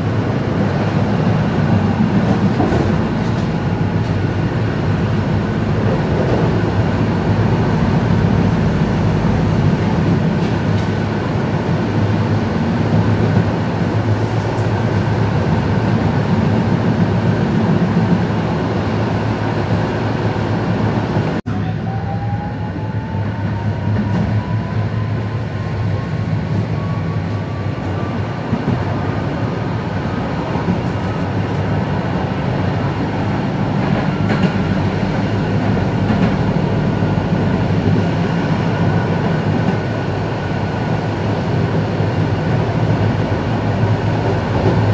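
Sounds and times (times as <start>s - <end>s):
rail vehicle running rumble: 0.0s - 44.9s.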